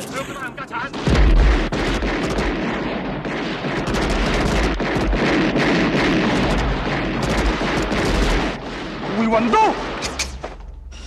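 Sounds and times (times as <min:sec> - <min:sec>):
rapid gunshots: 0:00.8 - 0:10.2.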